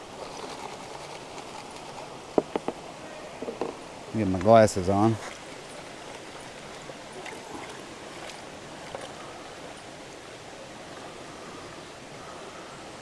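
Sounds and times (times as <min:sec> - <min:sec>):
rocky river rushing: 0:00.0 - 0:13.0.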